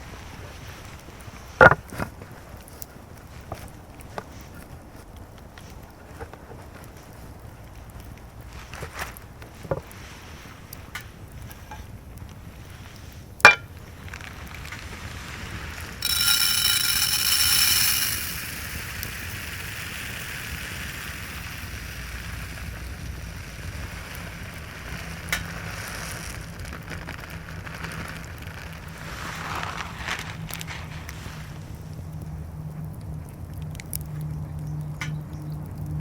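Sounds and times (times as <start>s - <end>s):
food sizzling over wood fire: 0.0s - 33.2s.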